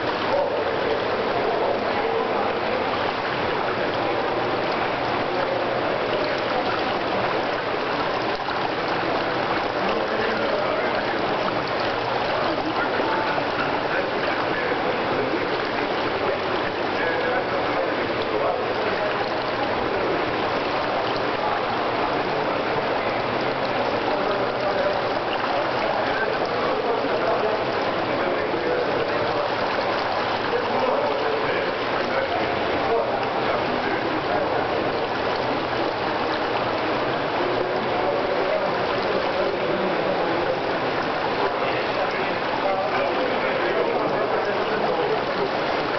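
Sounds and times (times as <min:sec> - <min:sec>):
faint voices: 0:00.0 - 0:45.9
rushing water in a pool: 0:00.0 - 0:45.9.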